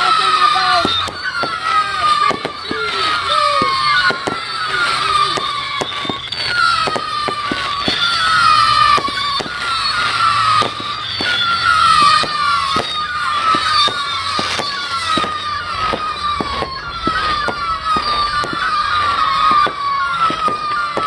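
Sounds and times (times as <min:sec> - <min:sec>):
firework bangs and pops: 0:00.0 - 0:21.0
firework whistles: 0:00.0 - 0:21.0.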